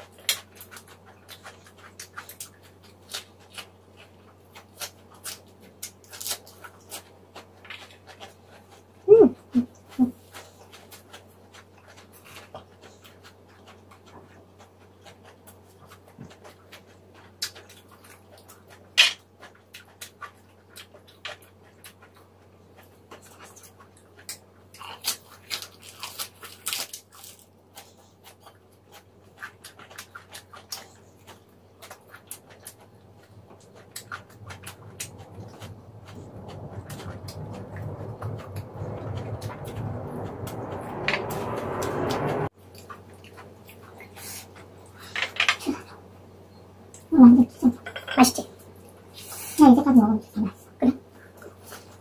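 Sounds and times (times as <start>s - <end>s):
crunching while chewing: 0.0s - 46.1s, 50.5s - 52.0s.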